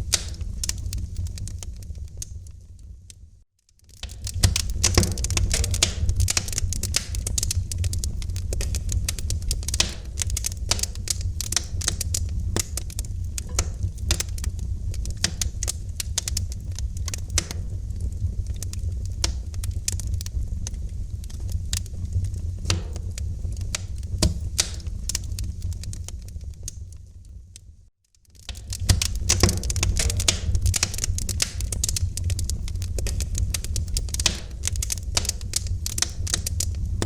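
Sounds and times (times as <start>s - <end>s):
low rumble of burning flames: 0.0s - 37.0s
wood fire crackling: 0.0s - 37.0s.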